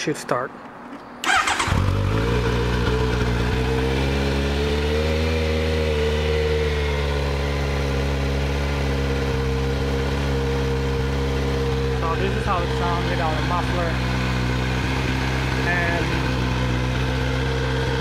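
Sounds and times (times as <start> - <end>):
motorcycle engine idling: 1.3 - 18.0.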